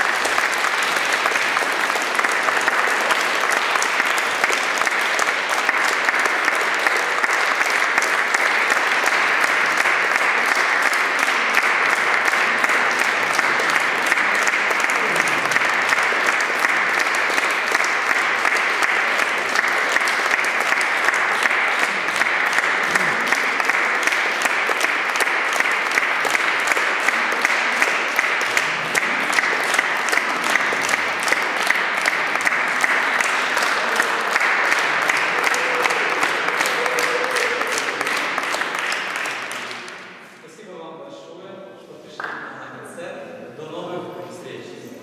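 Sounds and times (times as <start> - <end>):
audience applause: 0.0 - 40.3.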